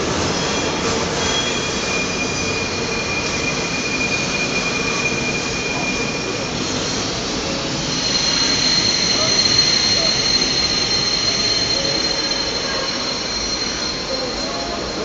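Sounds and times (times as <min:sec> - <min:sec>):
train running noise: 0:00.0 - 0:15.0
train wheel squeal: 0:00.0 - 0:15.0.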